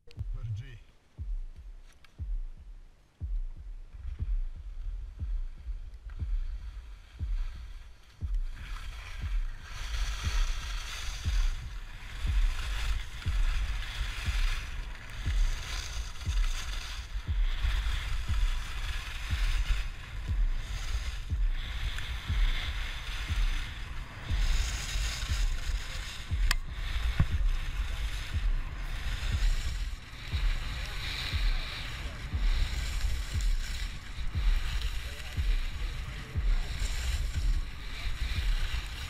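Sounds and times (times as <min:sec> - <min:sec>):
wind buffeting microphone: 0:00.1 - 0:39.0
skis scraping on hard snow: 0:06.4 - 0:39.0.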